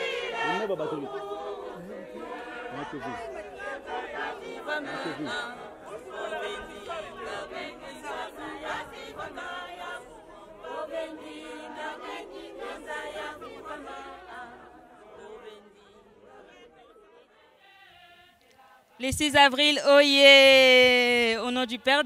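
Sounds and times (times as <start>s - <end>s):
women singing as a choir: 0.0s - 19.9s.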